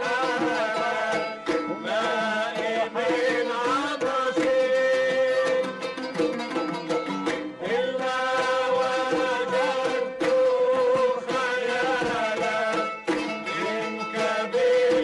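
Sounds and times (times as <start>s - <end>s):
frame drums: 0.0s - 15.0s.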